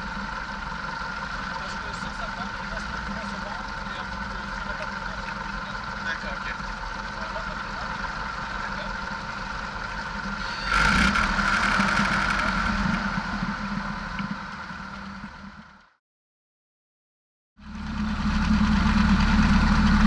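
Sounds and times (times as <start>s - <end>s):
airplane engine running: 0.0s - 16.0s, 17.6s - 20.0s.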